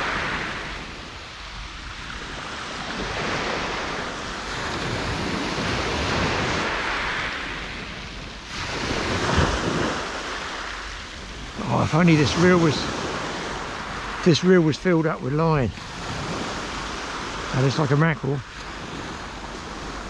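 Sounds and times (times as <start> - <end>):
waves breaking on shingle beach: 0.0 - 20.0
wind buffeting microphone: 0.0 - 20.0.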